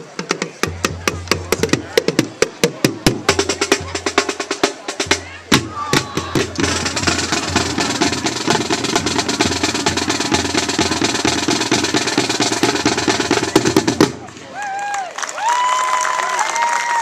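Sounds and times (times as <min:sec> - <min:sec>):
snare drum rolls: 0:00.0 - 0:14.4
bass drum beats: 0:00.2 - 0:14.4.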